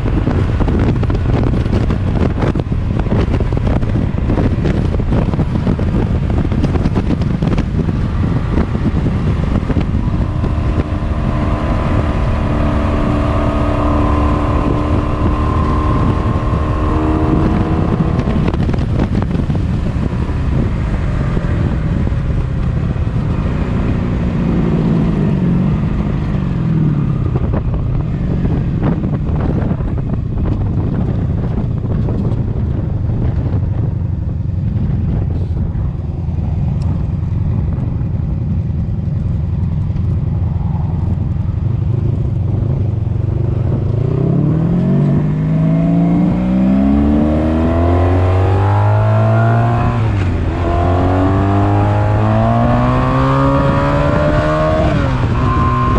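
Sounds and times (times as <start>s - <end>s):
motorcycle engine revving: 0.0s - 55.9s
wind buffeting microphone: 0.0s - 55.9s.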